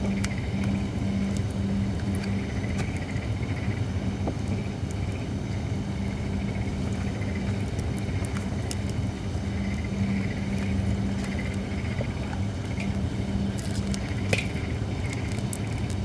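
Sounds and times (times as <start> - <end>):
fire low rumble and hum: 0.0 - 16.0
firewood crackling and popping: 0.0 - 16.0.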